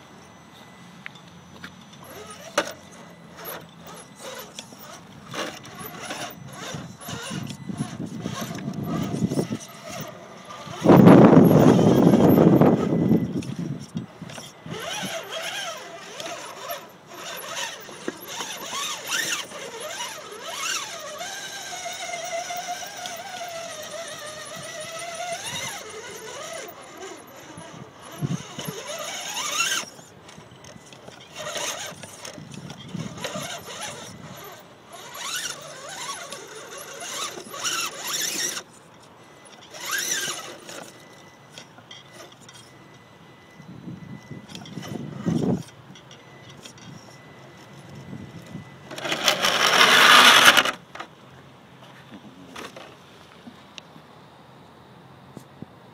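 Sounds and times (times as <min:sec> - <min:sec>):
electric motor and gears whining: 0:00.0 - 0:51.1.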